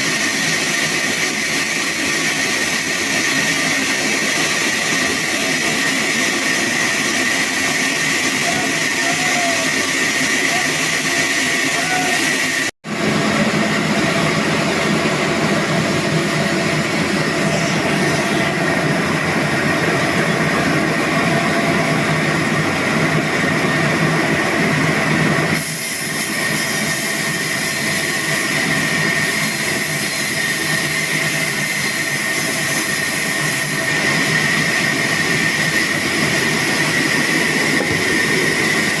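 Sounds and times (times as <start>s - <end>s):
dense machine noise: 0.0s - 39.0s
sawmill saw high whine: 0.0s - 39.0s.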